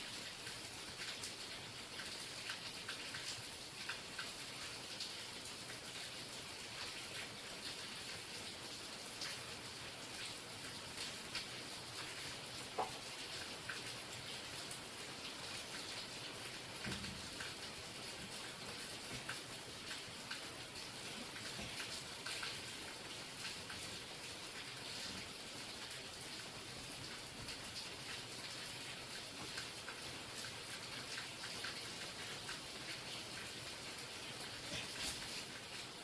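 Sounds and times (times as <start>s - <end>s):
rain pattering: 0.0s - 36.0s.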